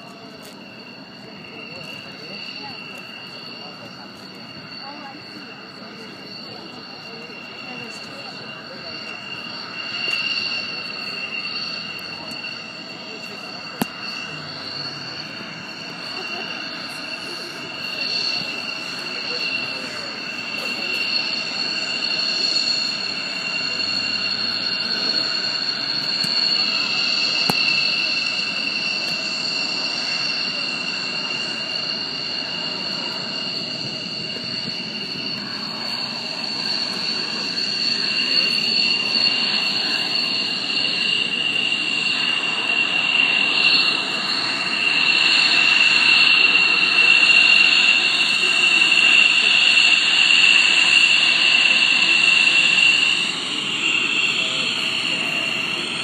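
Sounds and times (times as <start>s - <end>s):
jet engine turbine whine: 0.0s - 56.0s.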